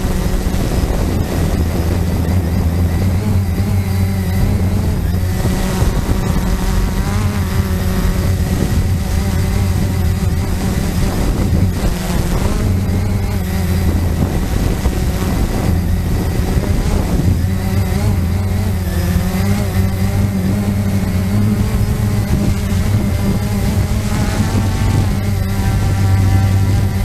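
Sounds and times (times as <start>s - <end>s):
quadcopter motors and propellers: 0.0s - 27.0s
wind buffeting microphone: 0.0s - 27.0s.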